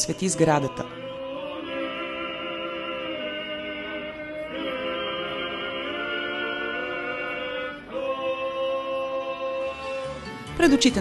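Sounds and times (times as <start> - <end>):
men chanting a hymn: 0.2 - 10.3.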